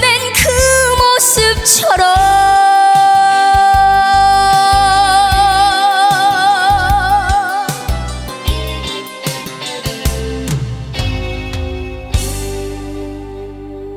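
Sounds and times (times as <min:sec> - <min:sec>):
band accompaniment: 0:00.0 - 0:13.6.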